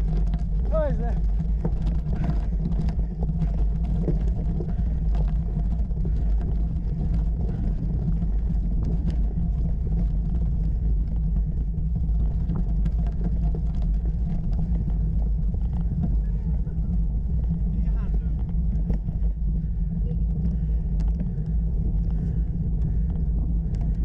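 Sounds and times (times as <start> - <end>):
bicycle rumbling over gravel: 0.0 - 24.0
stones ticking under tyres: 0.0 - 24.0.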